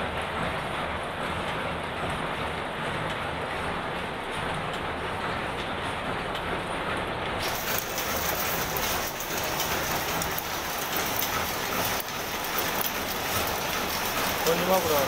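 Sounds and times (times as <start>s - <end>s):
weaving machine clattering: 0.0s - 15.0s.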